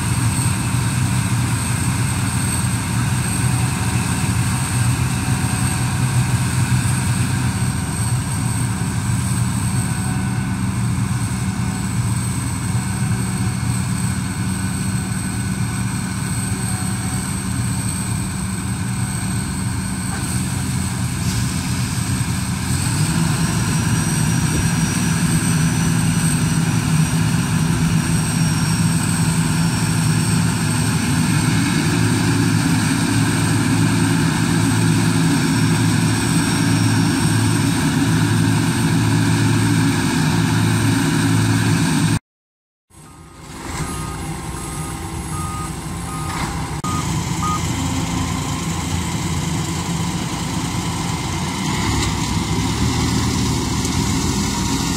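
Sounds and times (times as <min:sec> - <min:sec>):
combine harvester engine drone: 0:00.0 - 0:42.2, 0:42.9 - 0:54.9.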